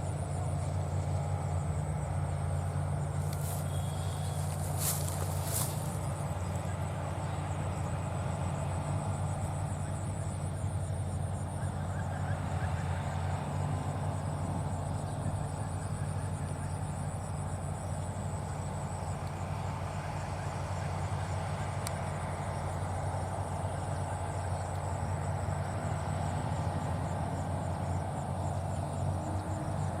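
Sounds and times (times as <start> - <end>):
faint high insect chirp: 0.0 - 30.0
tractor diesel engine running: 0.0 - 30.0.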